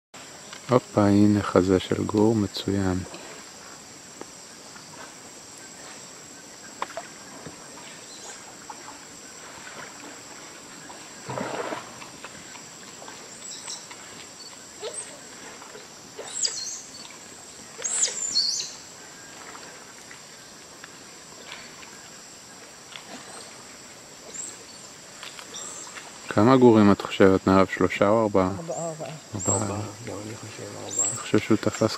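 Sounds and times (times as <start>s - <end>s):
insects droning: 0.2s - 31.9s.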